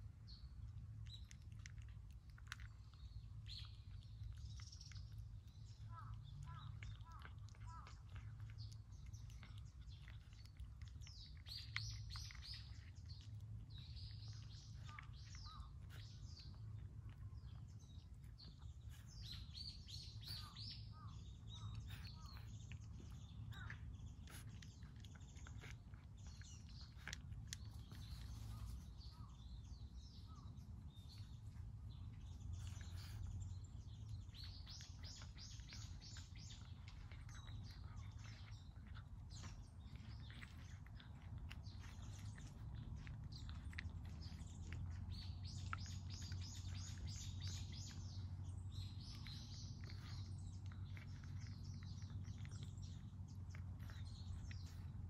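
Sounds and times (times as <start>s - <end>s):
low background rumble: 0.0s - 55.0s
birds chirping: 2.6s - 55.0s.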